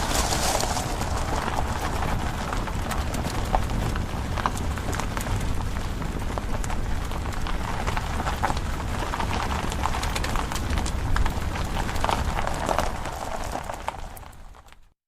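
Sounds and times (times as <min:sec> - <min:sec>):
tyres rumbling on dirt road: 0:00.0 - 0:14.8
grit and stones crackling: 0:00.0 - 0:14.9.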